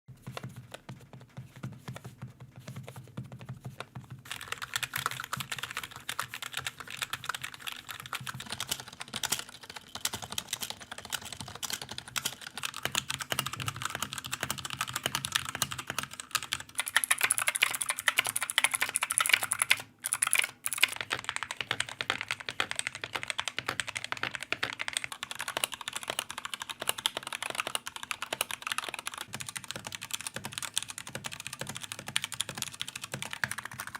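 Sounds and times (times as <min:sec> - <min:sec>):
fast typing on keyboards: 0:00.2 - 0:33.9.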